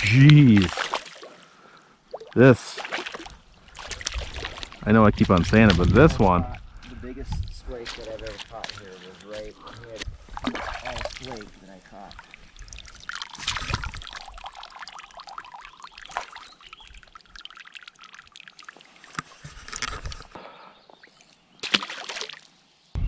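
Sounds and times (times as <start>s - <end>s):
water splashing and trickling: 0.0s - 22.9s.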